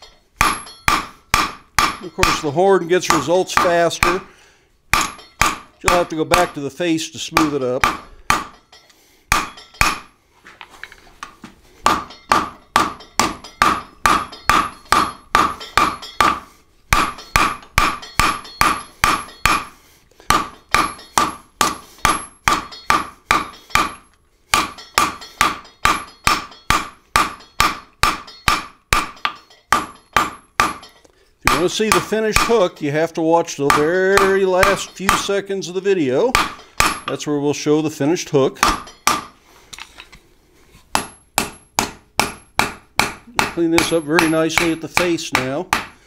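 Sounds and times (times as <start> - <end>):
hammer ringing on anvil: 0.0 - 4.2, 5.0 - 6.7, 7.4 - 10.1, 11.9 - 32.7, 33.7 - 35.4, 36.3 - 37.2, 38.6 - 39.3, 41.0 - 46.0.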